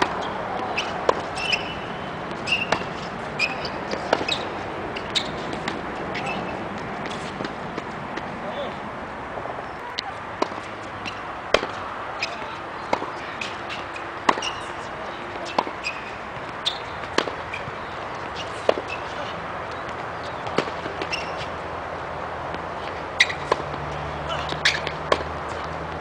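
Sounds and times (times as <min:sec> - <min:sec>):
ball bouncing on hard court: 0:00.0 - 0:08.3, 0:10.0 - 0:21.6, 0:22.5 - 0:25.4
tennis ball struck by racket: 0:00.0 - 0:08.3, 0:10.0 - 0:21.7, 0:22.4 - 0:26.0
outdoor background noise: 0:00.0 - 0:26.0.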